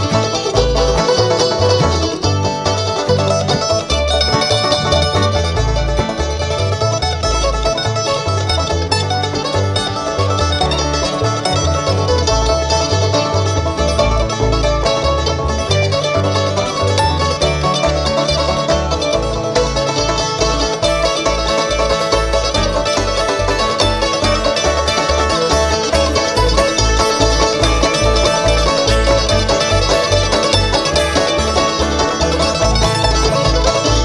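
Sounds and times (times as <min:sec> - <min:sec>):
guitar: 0:00.0 - 0:34.0
mandolin: 0:00.0 - 0:34.0
picked banjo: 0:00.0 - 0:34.0
plucked bass line: 0:00.0 - 0:34.0.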